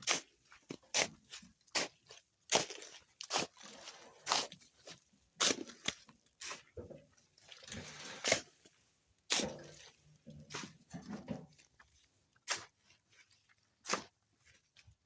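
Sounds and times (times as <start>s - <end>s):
hand tool scraping cement mix: 0.0s - 6.8s, 7.5s - 8.7s, 9.3s - 15.0s.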